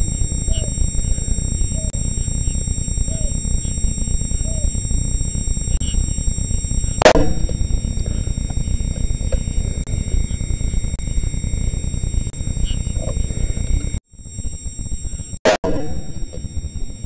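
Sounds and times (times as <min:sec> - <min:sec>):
faint high-pitched whine: 0:00.0 - 0:17.0
low rumbling noise: 0:00.0 - 0:17.0.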